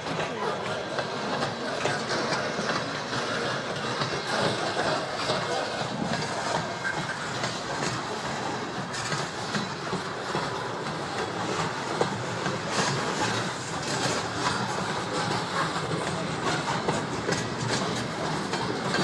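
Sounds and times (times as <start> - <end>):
freight train wheels rumbling on rail: 0.0 - 19.0
wheel clicks on rail: 0.0 - 19.0.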